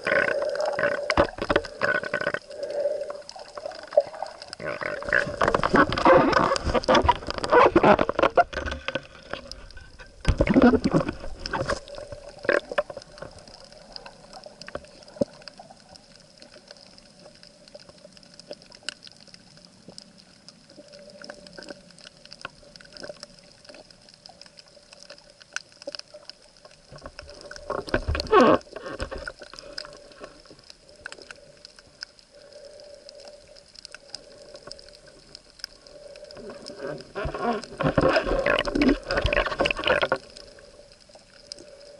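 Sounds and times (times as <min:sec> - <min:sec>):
faint underwater hum: 0:00.0 - 0:41.9
noisy water bursts: 0:00.0 - 0:41.9.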